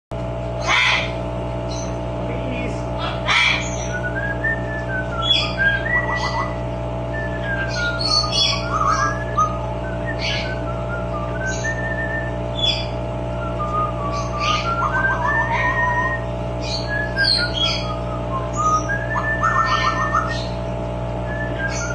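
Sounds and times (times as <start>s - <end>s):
steady hum: 0.1s - 21.9s
parrot whistling: 0.6s - 1.9s, 3.0s - 20.6s, 21.2s - 21.9s.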